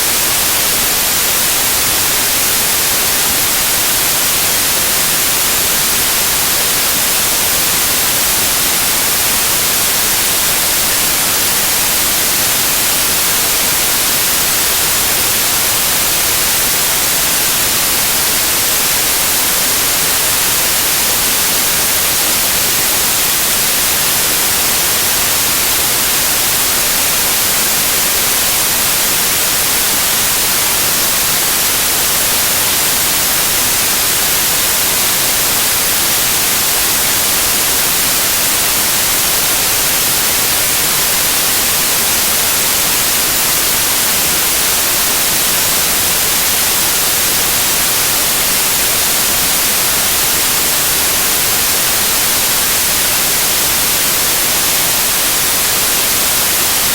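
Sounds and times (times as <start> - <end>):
steady white noise hiss: 0.0 - 56.9.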